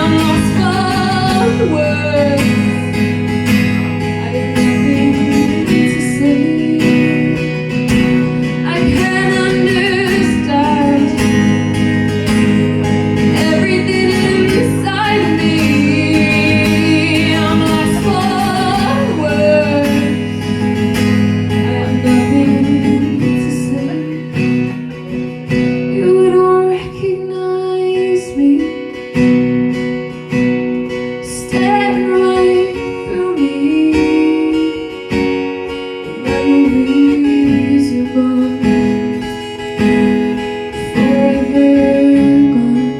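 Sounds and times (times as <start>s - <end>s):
woman singing with vibrato: 0.0s - 24.7s, 25.6s - 29.4s, 30.9s - 39.4s, 40.0s - 42.9s
acoustic guitar: 0.0s - 42.9s.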